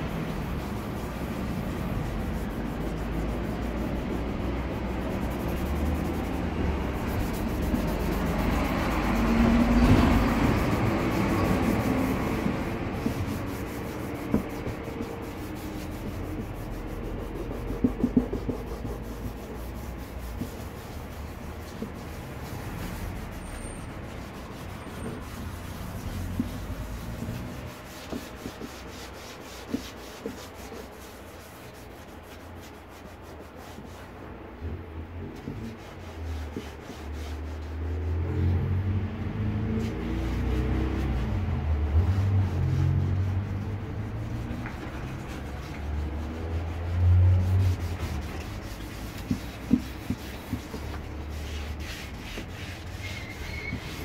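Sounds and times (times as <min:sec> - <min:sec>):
sandpaper rubbing on plastic: 0:00.0 - 0:34.2, 0:35.3 - 0:38.8, 0:39.4 - 0:54.0.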